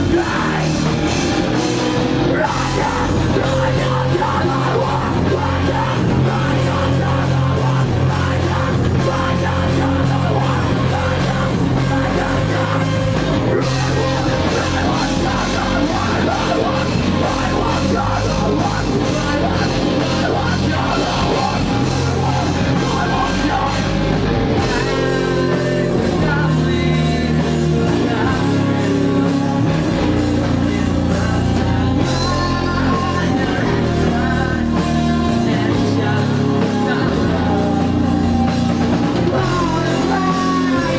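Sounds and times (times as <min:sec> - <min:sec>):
live rock band playing: 0:00.0 - 0:40.9
person singing: 0:00.0 - 0:40.9.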